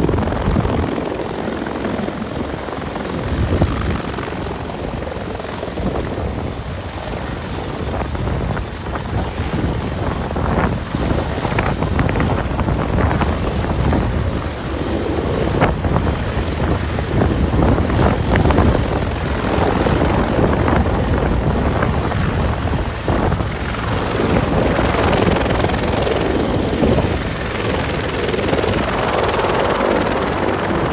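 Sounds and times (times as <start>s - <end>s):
helicopter rotor beating: 0.0s - 30.9s.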